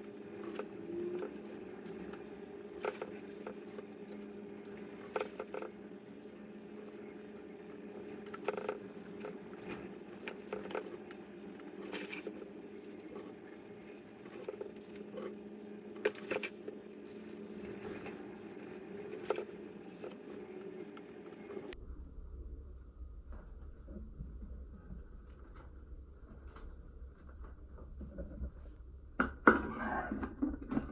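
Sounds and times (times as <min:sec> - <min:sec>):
low hum: 0:00.0 - 0:29.2.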